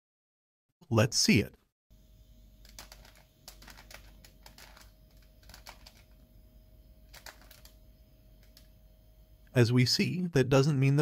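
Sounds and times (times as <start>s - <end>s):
low steady hum: 1.9s - 11.0s.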